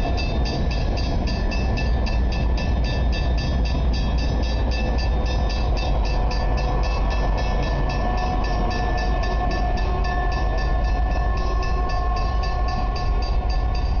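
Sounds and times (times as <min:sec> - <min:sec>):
locomotive engine rumble: 0:00.0 - 0:14.0
steady whine: 0:00.0 - 0:14.0.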